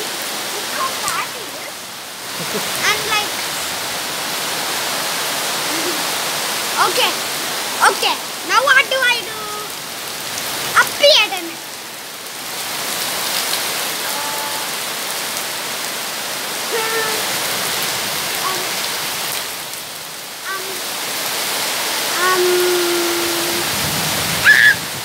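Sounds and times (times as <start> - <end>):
heavy rain on foliage: 0.0 - 25.0.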